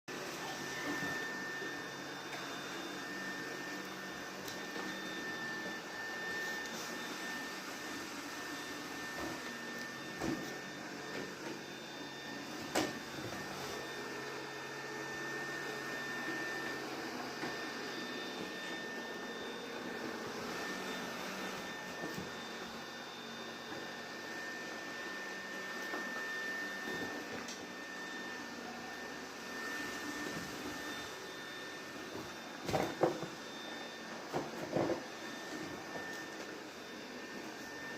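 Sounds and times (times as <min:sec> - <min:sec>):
vacuum cleaner running: 0:00.1 - 0:37.9.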